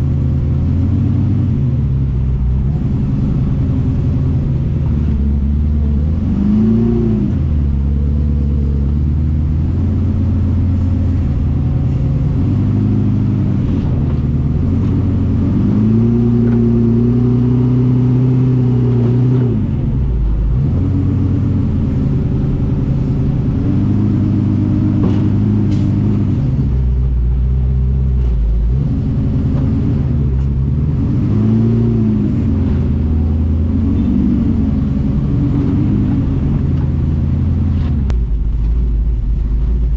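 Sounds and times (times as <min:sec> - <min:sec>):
buggy engine revving: 0:00.0 - 0:39.9.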